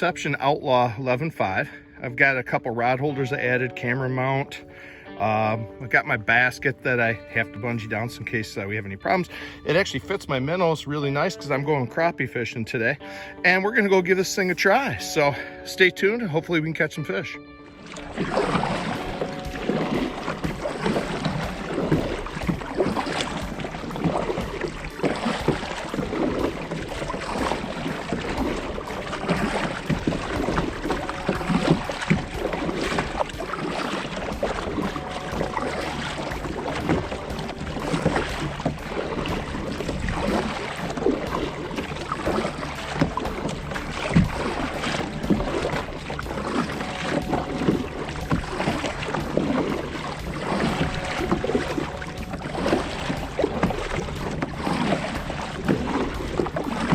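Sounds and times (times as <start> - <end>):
water splashing around kayak: 0.0 - 56.9.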